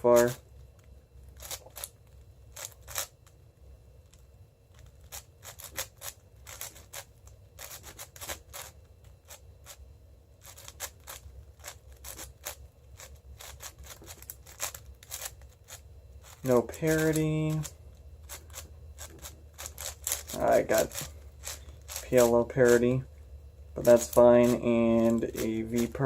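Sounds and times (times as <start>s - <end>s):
puzzle cube clacking and scraping: 0.0s - 0.4s, 1.3s - 3.2s, 4.1s - 9.8s, 10.4s - 23.0s, 23.8s - 26.0s.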